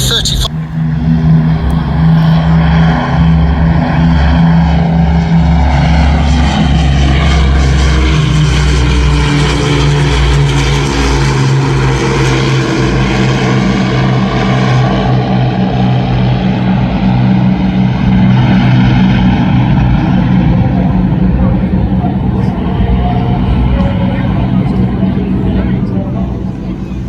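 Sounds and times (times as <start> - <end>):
propeller aircraft engines droning: 0.0 - 27.0.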